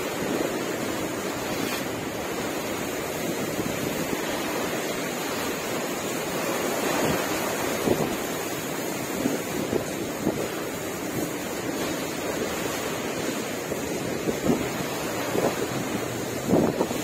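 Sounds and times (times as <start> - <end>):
sea water rushing past boat: 0.0 - 17.0
wind buffeting microphone: 0.0 - 17.0.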